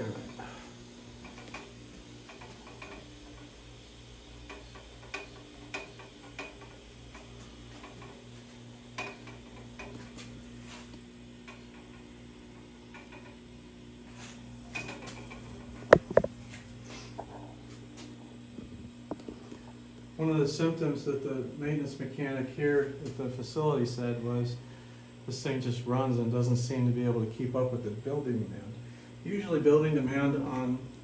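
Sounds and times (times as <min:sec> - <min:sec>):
air compressor humming: 0:00.0 - 0:31.0.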